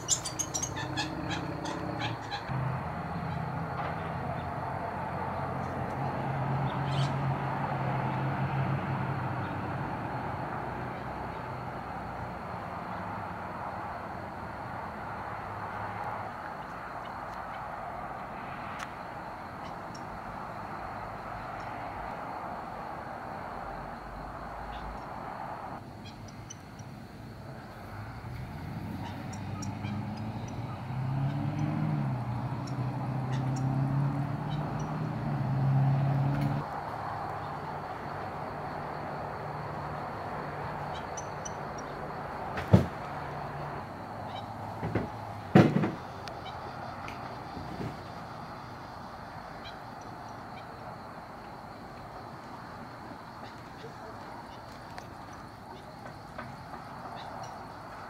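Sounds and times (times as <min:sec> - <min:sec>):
outdoor noise: 0:00.0 - 0:58.0
vehicle engine hum: 0:00.0 - 0:58.0.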